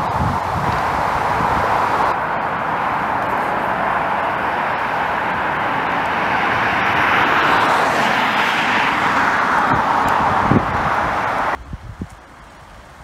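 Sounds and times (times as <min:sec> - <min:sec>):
car driving past: 0:00.0 - 0:11.6.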